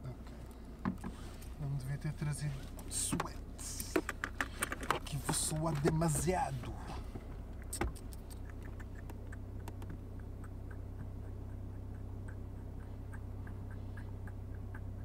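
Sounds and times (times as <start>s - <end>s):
steady low hum: 0.0s - 15.0s
light regular ticking: 0.1s - 15.0s.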